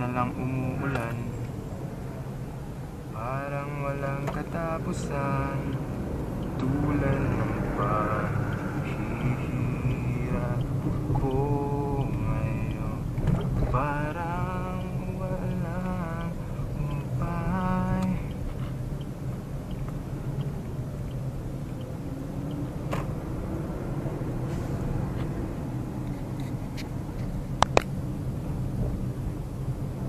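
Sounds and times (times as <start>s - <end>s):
car road and engine noise: 0.0s - 30.0s.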